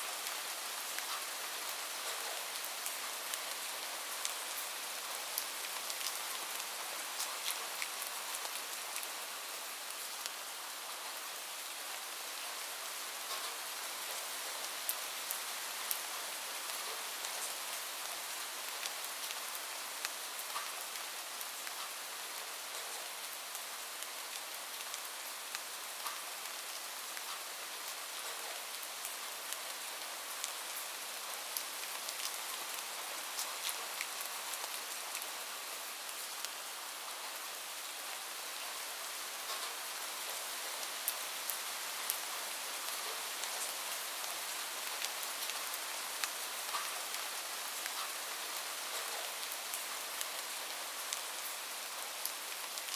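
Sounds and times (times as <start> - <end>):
light rain falling: 0.0 - 52.9.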